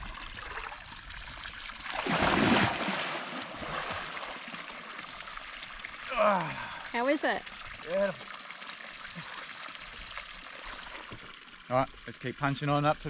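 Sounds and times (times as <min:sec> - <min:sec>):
running water splashing: 0:00.0 - 0:12.2.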